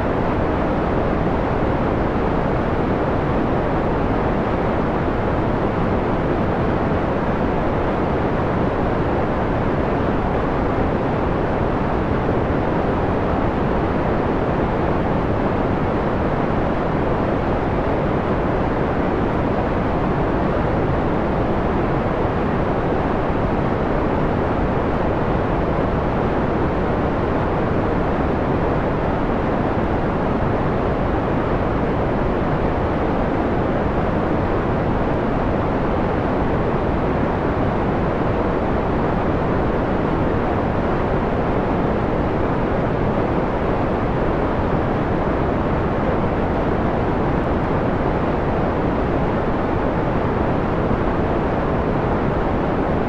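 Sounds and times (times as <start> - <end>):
dark filtered white noise: 0.0 - 53.0.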